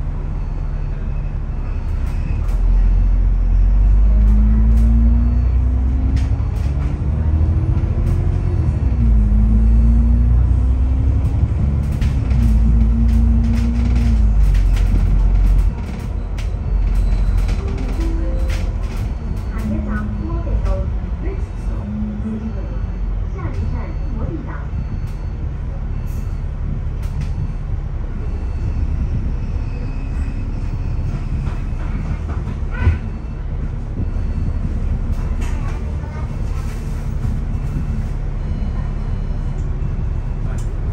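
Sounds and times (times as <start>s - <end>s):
bus engine rumble and whine: 0.0s - 40.9s.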